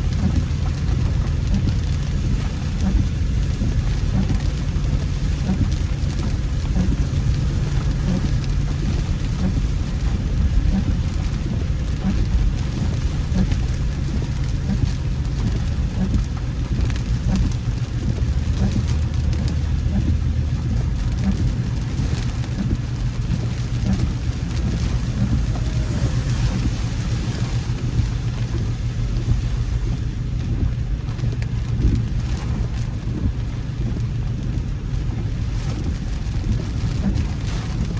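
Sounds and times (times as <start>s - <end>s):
rain on a moving car: 0.0s - 37.9s
road and engine rumble: 0.0s - 37.9s.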